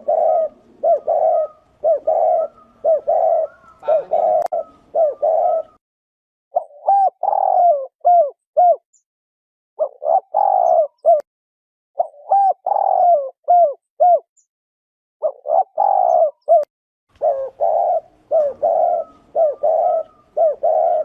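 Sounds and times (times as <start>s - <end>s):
dove cooing: 0.0s - 5.8s, 6.6s - 8.8s, 9.8s - 11.2s, 12.0s - 14.3s, 15.2s - 21.0s.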